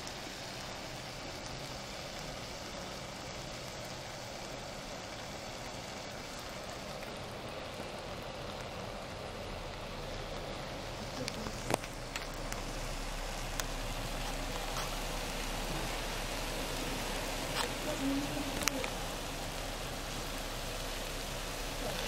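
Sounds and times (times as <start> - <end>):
camp stove hissing: 0.0 - 22.0.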